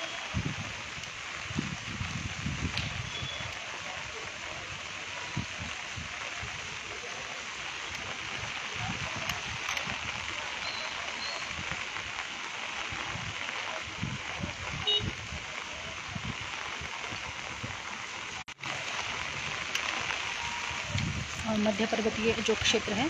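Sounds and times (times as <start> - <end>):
steady rain on a street: 0.0 - 23.0.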